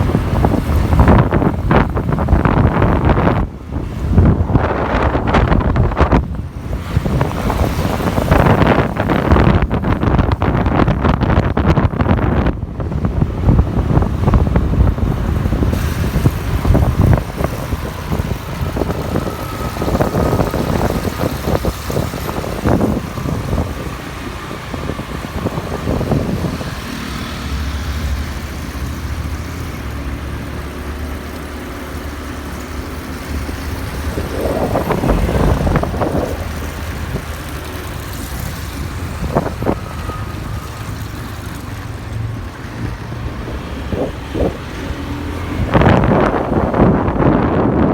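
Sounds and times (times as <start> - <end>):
motorbike engine: 0.0 - 47.9
road noise: 0.0 - 47.9
wind buffeting microphone: 0.0 - 47.9.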